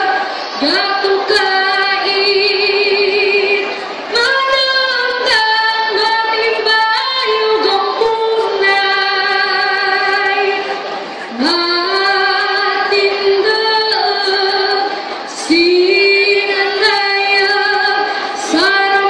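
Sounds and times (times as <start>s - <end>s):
young voice singing: 0.0s - 10.7s, 11.3s - 19.0s.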